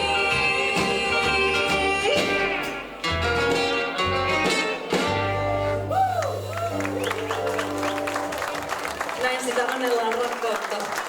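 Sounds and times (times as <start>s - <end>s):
bass: 0.0s - 9.2s.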